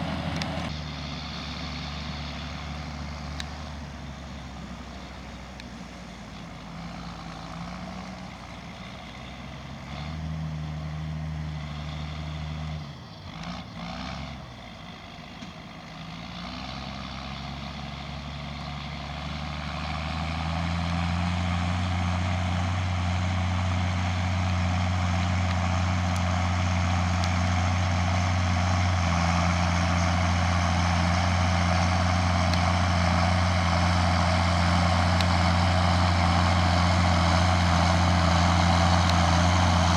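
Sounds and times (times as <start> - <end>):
tractor diesel engine running: 0.0 - 13.8, 14.4 - 39.9.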